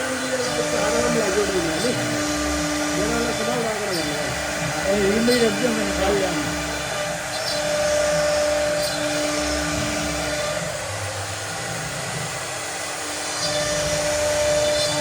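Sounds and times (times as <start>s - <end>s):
cutting machine whirring hiss: 0.0s - 15.0s
machine hum: 0.0s - 15.0s.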